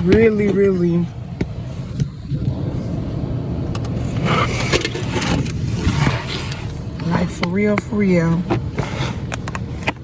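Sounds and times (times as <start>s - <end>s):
air conditioning: 0.0s - 10.0s
car engine rumble inside cabin: 0.0s - 10.0s.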